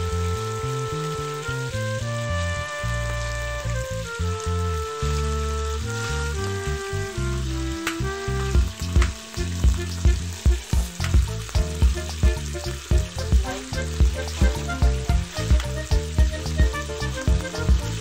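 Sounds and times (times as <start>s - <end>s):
background music with low thumps: 0.0s - 18.0s
chicken sizzling in oil: 0.0s - 18.0s.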